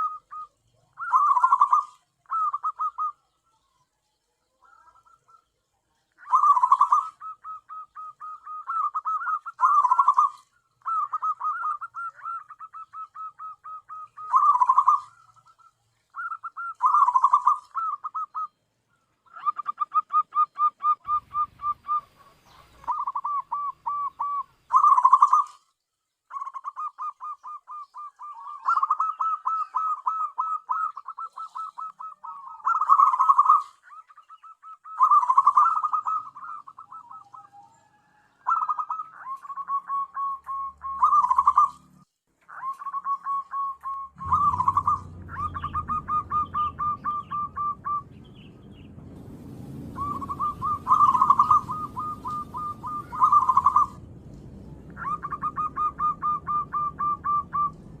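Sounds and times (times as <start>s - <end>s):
dove cooing: 0.0s - 3.6s, 4.6s - 5.5s, 6.1s - 18.6s, 19.2s - 25.6s, 26.3s - 58.0s.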